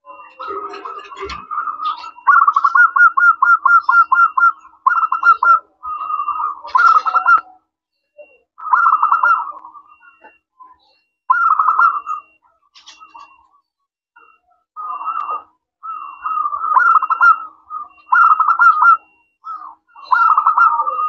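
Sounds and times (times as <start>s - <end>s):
dove cooing: 0.0s - 7.5s, 8.6s - 10.3s, 11.3s - 13.4s, 14.8s - 21.0s.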